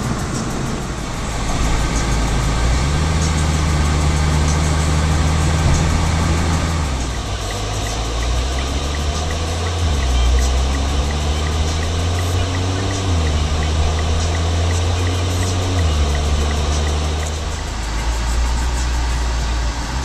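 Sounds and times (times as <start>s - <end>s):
car engine and road noise: 0.0s - 20.0s
deep engine drone: 0.0s - 20.0s
light regular ticking: 0.0s - 20.0s.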